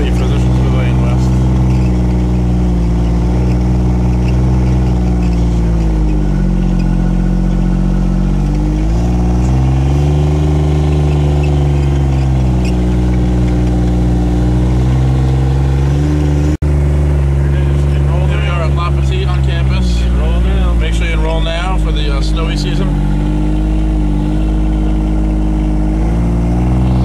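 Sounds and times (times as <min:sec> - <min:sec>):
utility vehicle engine running: 0:00.0 - 0:27.0.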